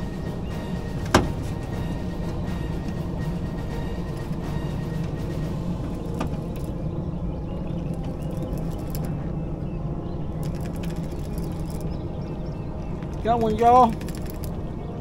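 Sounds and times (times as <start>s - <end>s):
outboard motor humming: 0.0s - 15.0s.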